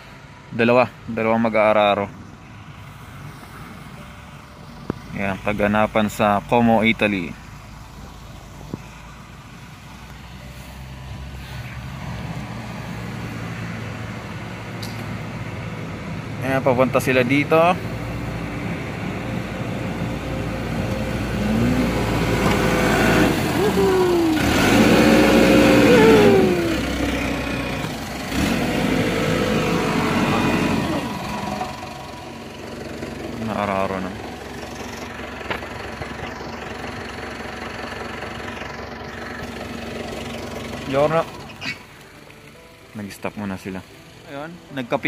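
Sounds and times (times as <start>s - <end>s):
snowplow engines humming: 2.0s - 44.9s.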